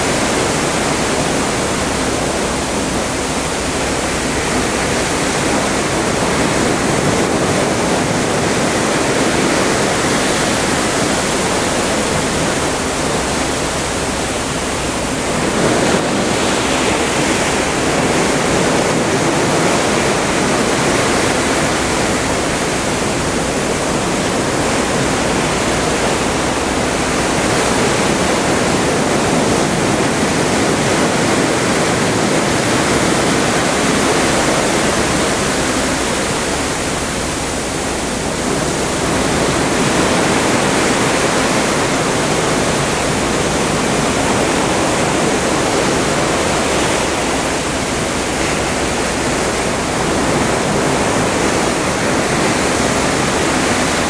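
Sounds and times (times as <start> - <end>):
water rushing past ship: 0.0 - 54.0.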